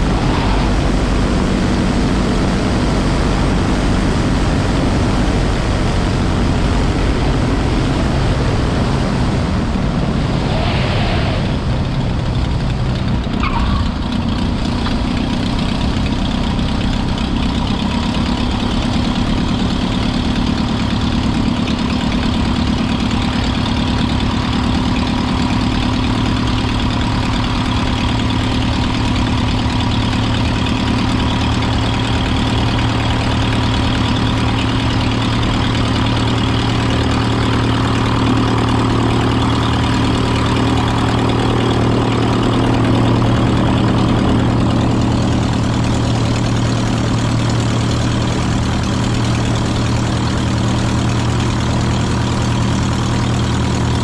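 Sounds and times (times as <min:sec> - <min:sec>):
propeller airplane engine running: 0:00.0 - 0:54.0.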